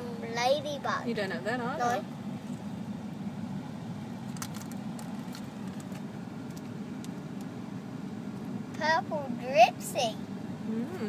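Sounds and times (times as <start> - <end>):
car cabin rumble while driving: 0.0 - 11.0.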